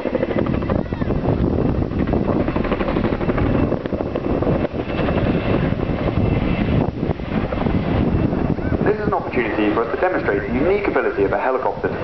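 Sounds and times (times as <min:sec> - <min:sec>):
helicopter rotor blade chop: 0:00.0 - 0:12.0.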